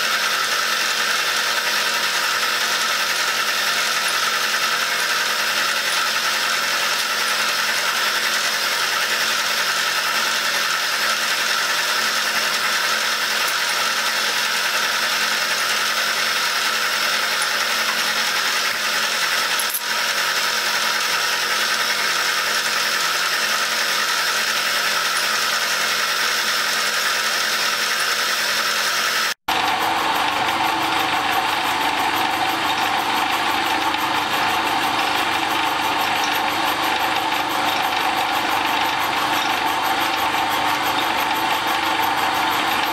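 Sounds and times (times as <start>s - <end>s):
milling machine cutting metal: 0.0s - 42.9s.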